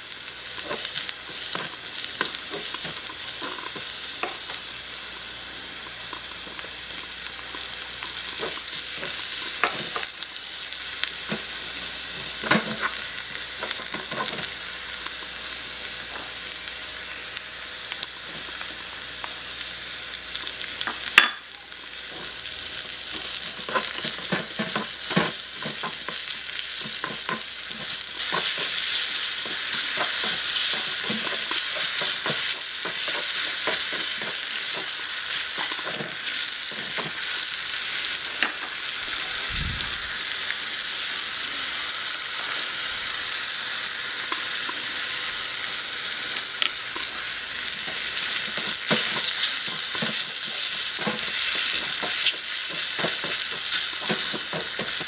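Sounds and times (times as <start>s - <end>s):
food sizzling in oil: 0.0s - 55.0s.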